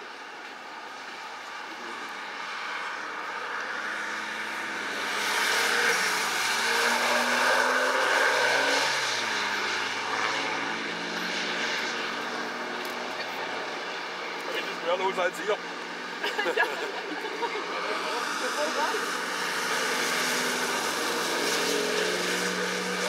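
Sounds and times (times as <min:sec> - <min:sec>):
car engine passing: 0:00.7 - 0:23.0.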